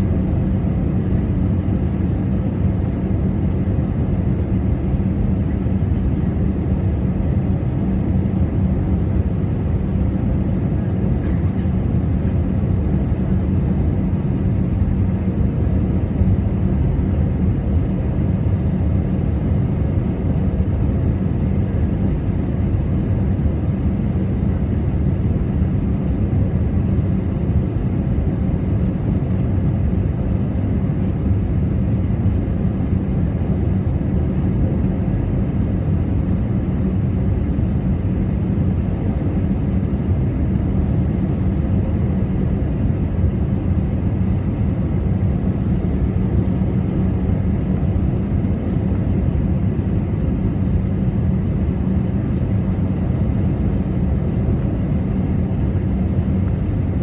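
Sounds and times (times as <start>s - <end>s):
faint constant hum: 0.0s - 57.0s
jet engines and airflow rumble: 0.0s - 57.0s.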